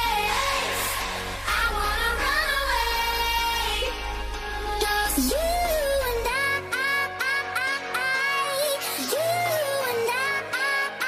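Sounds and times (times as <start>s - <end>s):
sung lines: 0.0s - 10.3s
pop music: 0.0s - 11.0s.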